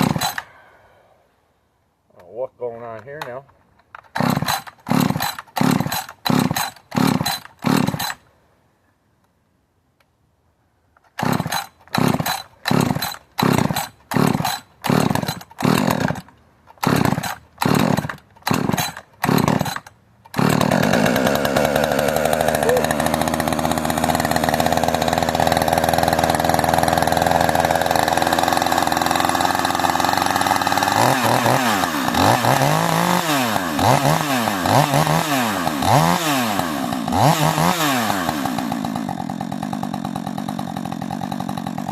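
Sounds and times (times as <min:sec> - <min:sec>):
chainsaw engine firing and revving: 0:00.0 - 0:00.5, 0:04.1 - 0:08.2, 0:11.2 - 0:41.9.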